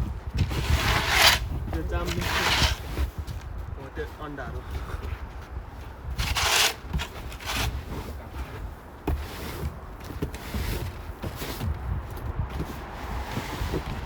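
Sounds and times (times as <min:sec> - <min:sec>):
wind rumbling on microphone: 0:00.0 - 0:14.0
scraping crunching noises: 0:00.1 - 0:14.0.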